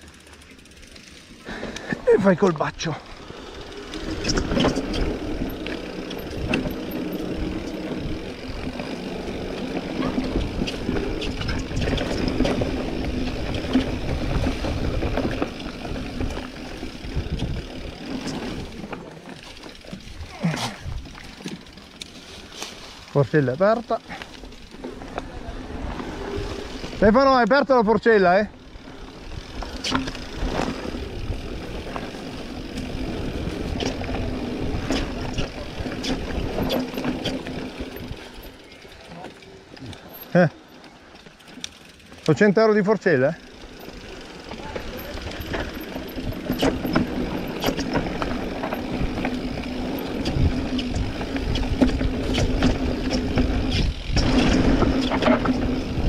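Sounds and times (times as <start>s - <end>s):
bike rattles and knocks: 0.0s - 56.0s
wind and tyre noise: 0.0s - 56.0s.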